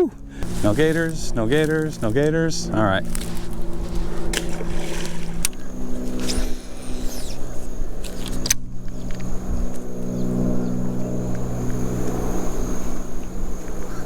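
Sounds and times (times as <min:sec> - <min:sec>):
distant motor droning: 0:00.0 - 0:14.0.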